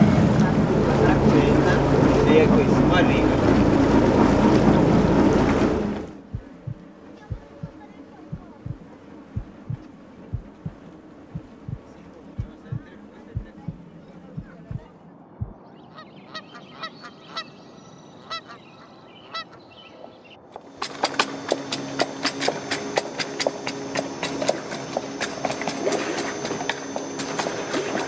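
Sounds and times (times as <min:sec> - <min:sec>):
steady low hum: 0:00.0 - 0:18.5, 0:20.4 - 0:28.0.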